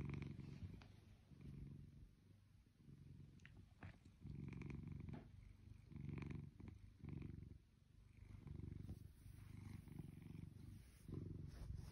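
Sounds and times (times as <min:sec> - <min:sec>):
cat purring: 0:00.0 - 0:11.9.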